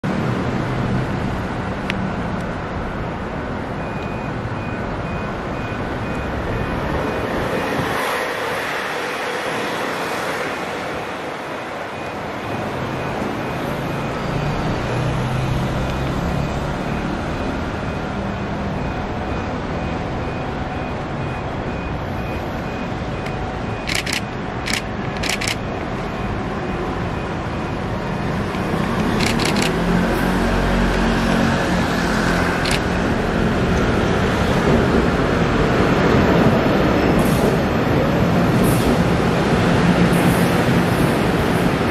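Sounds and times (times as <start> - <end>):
passenger train rumbling: 0.0 - 41.9
road traffic noise: 0.0 - 41.9.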